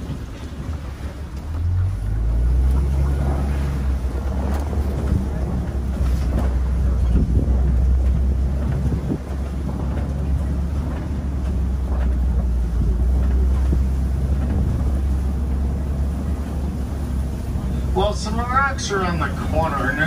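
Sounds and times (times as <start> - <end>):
truck engine and tyres rumbling: 0.0 - 20.0
wind buffeting microphone: 0.0 - 20.0.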